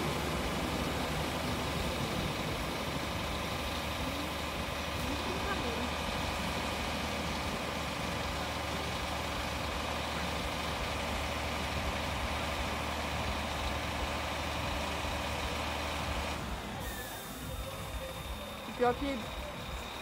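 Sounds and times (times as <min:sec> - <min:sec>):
fire truck engine idling: 0:00.0 - 0:20.0.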